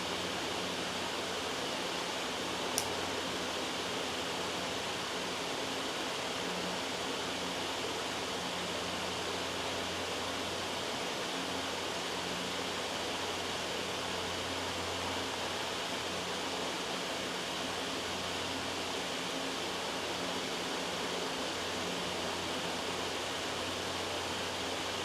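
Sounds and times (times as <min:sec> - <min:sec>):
white noise hiss: 0:00.0 - 0:25.0.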